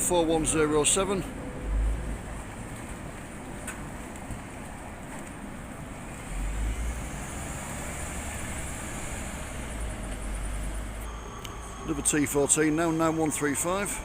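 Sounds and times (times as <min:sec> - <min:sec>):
vehicle passing on street: 0:00.0 - 0:14.0.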